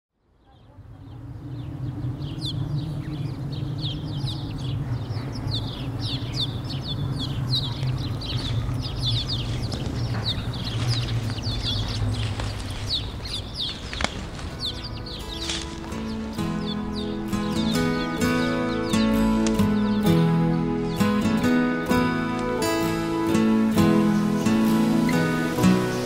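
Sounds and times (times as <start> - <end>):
small birds chirping: 0.2 - 26.0.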